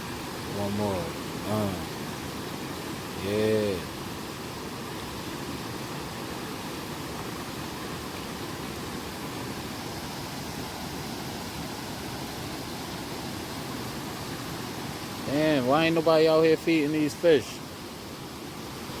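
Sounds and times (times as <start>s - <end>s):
water rushing over waterfall: 0.0s - 19.0s.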